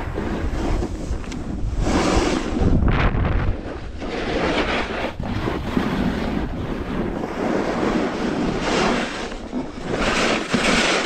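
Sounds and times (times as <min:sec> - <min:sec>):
snowboard scraping over snow: 0:00.0 - 0:11.0
wind rushing over microphone: 0:00.0 - 0:11.0.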